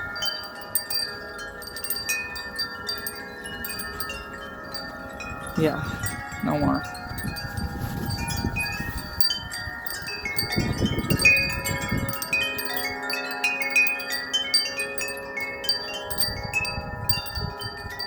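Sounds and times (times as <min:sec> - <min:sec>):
low rumble of wind: 0:00.0 - 0:18.0
wind chimes ringing: 0:00.0 - 0:18.0.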